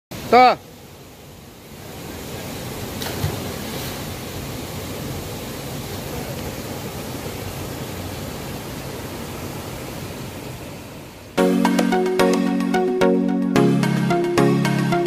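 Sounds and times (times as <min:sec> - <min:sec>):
waterfall and stream rushing: 0:00.1 - 0:15.0.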